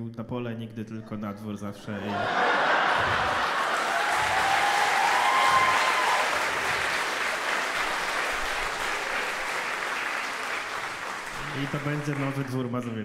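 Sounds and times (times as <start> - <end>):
audience applauding: 2.1 - 13.0.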